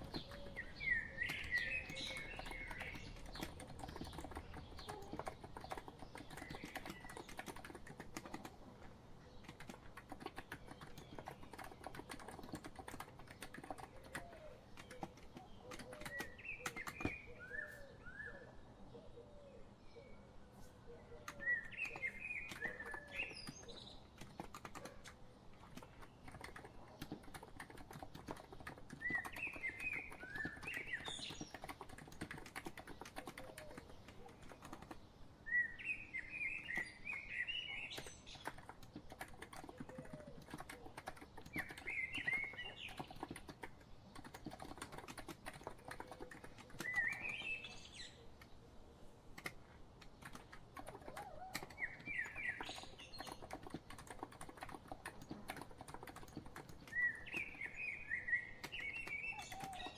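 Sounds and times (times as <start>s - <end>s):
keyboard typing: 0.0s - 17.3s, 21.3s - 35.2s, 37.8s - 48.6s, 49.2s - 59.9s
songbird chirping: 0.0s - 59.9s.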